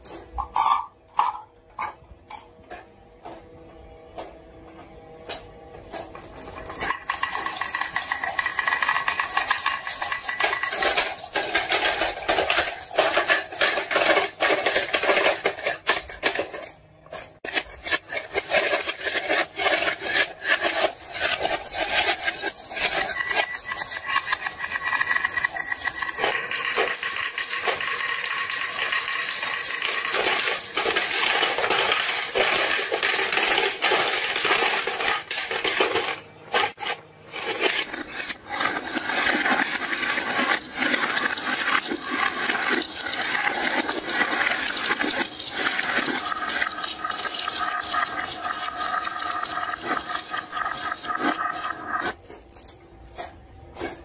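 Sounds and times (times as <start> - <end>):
marbles rolling on wooden run: 6.3 - 52.2.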